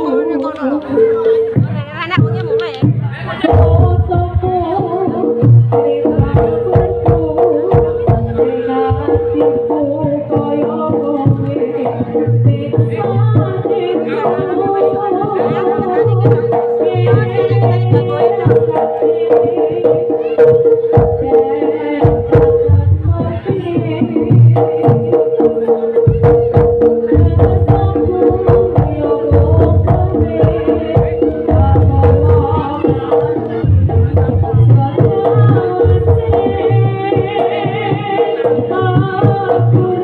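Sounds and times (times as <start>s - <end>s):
hand-drum strokes: 0.0s - 40.0s.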